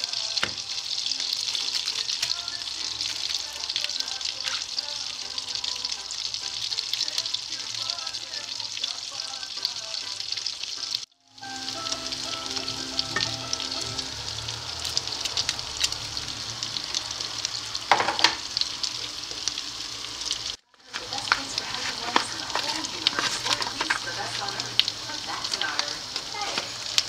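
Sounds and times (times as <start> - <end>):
butter and garlic sizzling in pan: 0.0 - 27.0.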